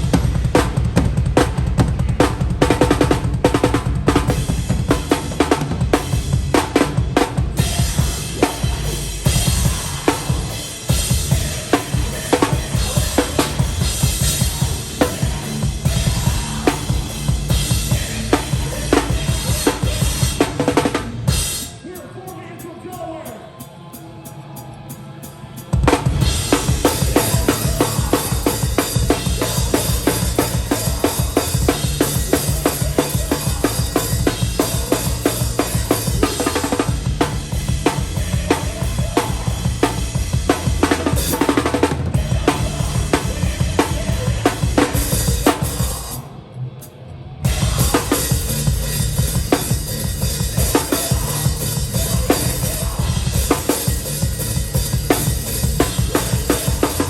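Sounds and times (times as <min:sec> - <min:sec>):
rapid bass drum: 0:00.0 - 0:21.6, 0:25.8 - 0:46.2, 0:47.5 - 0:57.0
hardcore band playing: 0:00.0 - 0:46.3, 0:47.4 - 0:57.0.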